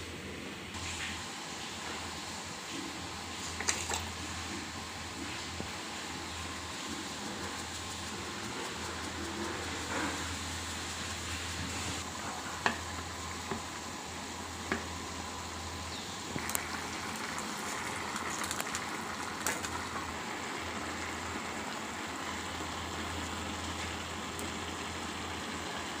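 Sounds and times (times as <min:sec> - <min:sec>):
food sizzling in a pan: 0:00.8 - 0:26.0.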